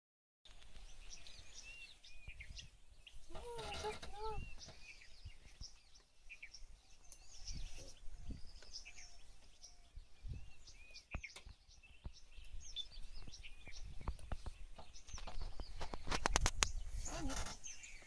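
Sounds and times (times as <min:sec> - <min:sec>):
birds chirping and calling: 0:00.5 - 0:18.0.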